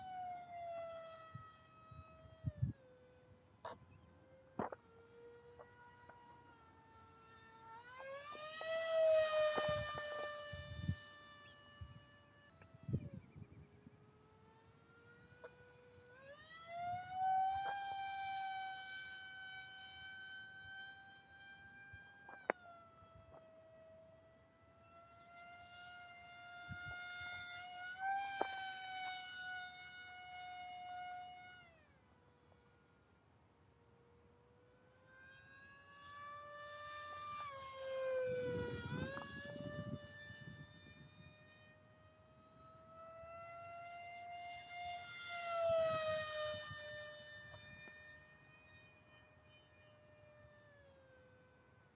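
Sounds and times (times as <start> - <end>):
electric motor high whine: 0.0 - 51.9.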